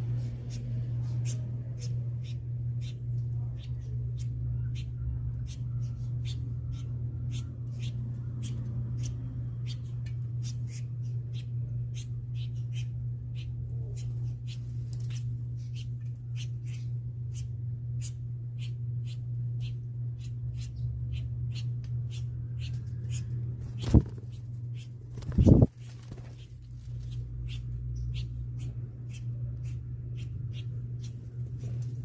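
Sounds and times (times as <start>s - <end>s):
steady low hum: 0.0s - 32.0s
small bird chirping: 0.1s - 31.8s.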